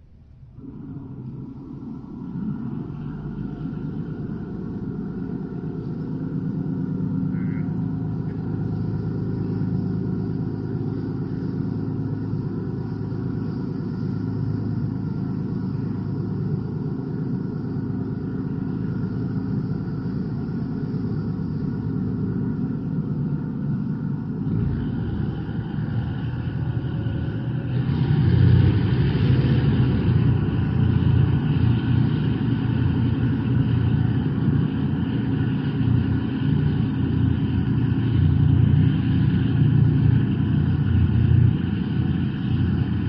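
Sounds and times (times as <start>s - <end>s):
ferry engine droning: 0.0s - 43.0s.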